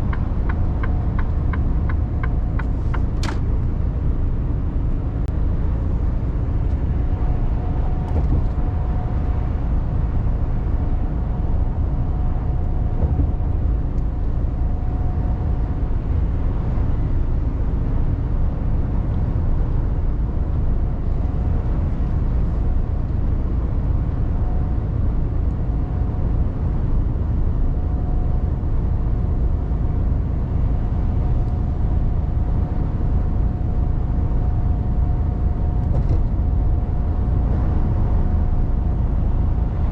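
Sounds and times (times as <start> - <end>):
diesel truck engine and road rumble: 0.0 - 39.9.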